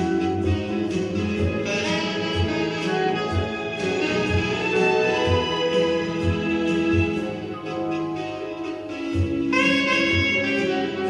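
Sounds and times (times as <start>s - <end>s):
instrumental ensemble music: 0.0s - 11.0s
low beat: 0.0s - 11.0s.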